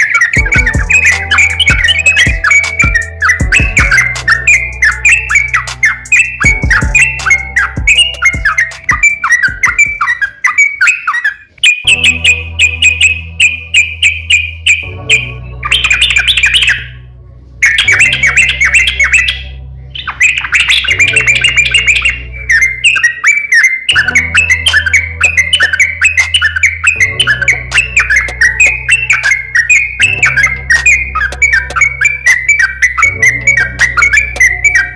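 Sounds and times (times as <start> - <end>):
songbird chattering song: 0.0 - 17.0, 17.6 - 34.9.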